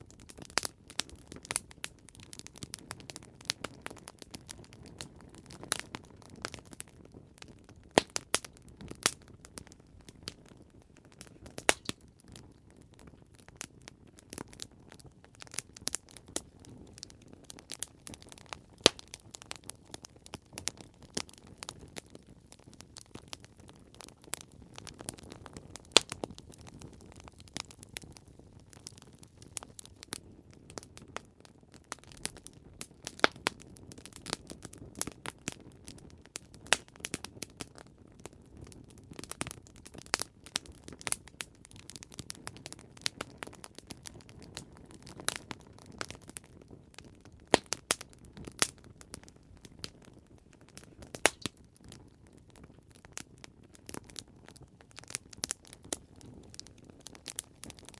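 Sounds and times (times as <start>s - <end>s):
campfire crackling and popping: 0.0s - 57.9s
low rumble of burning: 0.0s - 57.9s.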